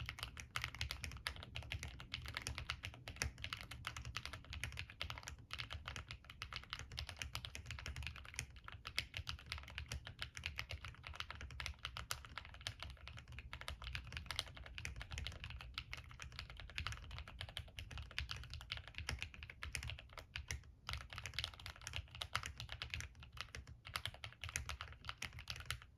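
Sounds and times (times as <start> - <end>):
mechanical keyboard typing: 0.0 - 25.9.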